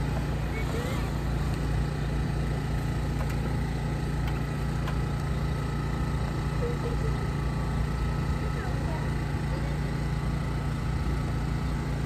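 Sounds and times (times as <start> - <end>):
street noise: 0.0 - 12.0
vehicle engine idling: 0.0 - 12.0.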